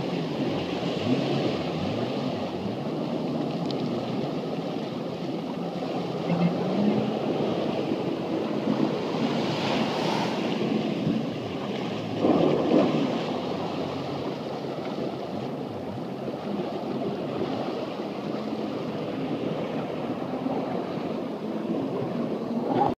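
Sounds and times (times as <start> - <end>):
choppy water splashing: 0.0 - 22.9
personal watercraft engine running: 0.0 - 22.9
wind buffeting microphone: 0.0 - 22.9.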